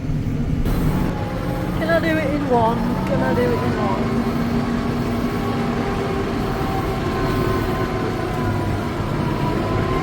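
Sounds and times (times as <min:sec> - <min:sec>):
tractor engine rumble: 0:00.0 - 0:10.0.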